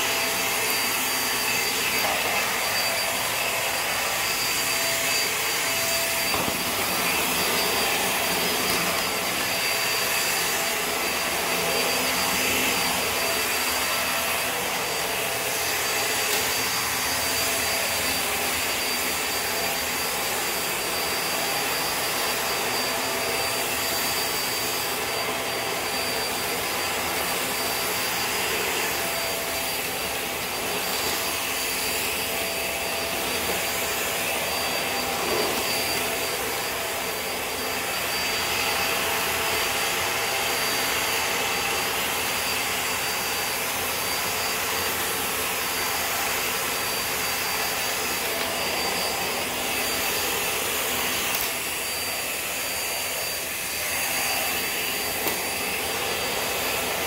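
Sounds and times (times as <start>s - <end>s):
vacuum cleaner running on tile: 0.0s - 57.0s.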